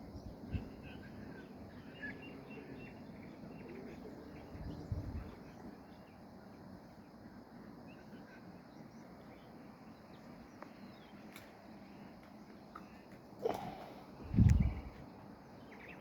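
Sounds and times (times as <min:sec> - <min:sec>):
faint bird chirps: 0:00.0 - 0:16.0
outdoor background hiss: 0:00.0 - 0:16.0.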